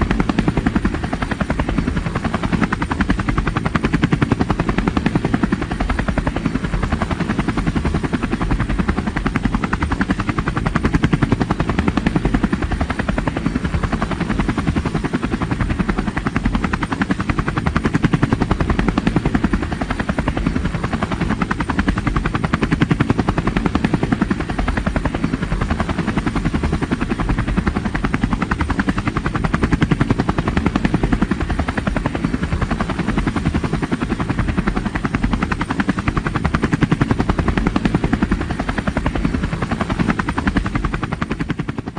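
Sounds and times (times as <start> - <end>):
helicopter rotor chopping: 0.0 - 41.9.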